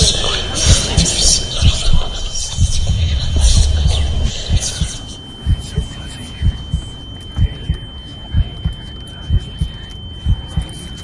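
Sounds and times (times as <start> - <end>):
heartbeat thumps: 0.0 - 10.8
steady high-pitched tone: 0.0 - 11.0.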